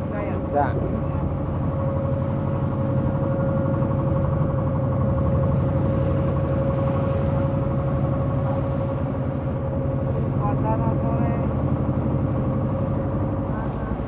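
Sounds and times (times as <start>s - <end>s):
boat engine throbbing: 0.0s - 14.0s
steady engine whine: 0.0s - 14.0s.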